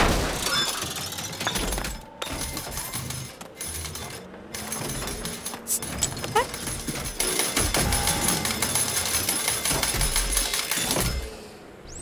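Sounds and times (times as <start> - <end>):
cartoon vending machine clattering: 0.0 - 11.4.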